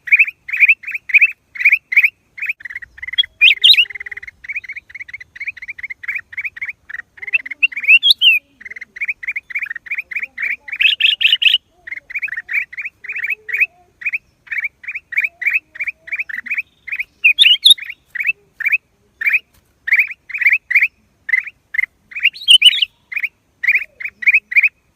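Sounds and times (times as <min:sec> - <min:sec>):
bulbul calling: 0:00.0 - 0:24.9.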